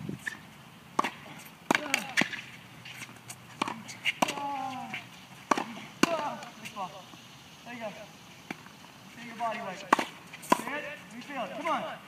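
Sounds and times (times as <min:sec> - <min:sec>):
tennis balls bouncing on court: 0:00.2 - 0:07.2, 0:08.4 - 0:12.0
tennis balls struck by racquets: 0:00.2 - 0:07.2, 0:08.4 - 0:12.0.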